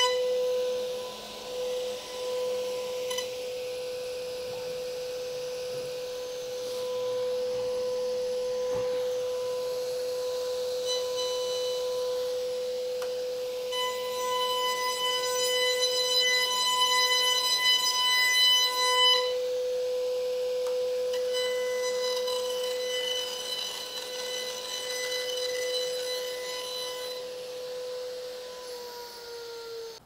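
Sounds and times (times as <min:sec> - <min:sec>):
router spindle whine: 0:00.0 - 0:30.0.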